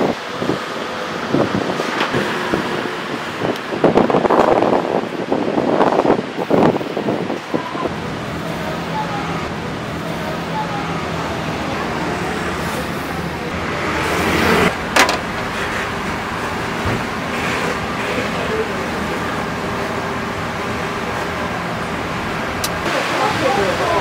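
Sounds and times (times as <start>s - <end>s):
steady rushing background noise: 0.0s - 24.0s.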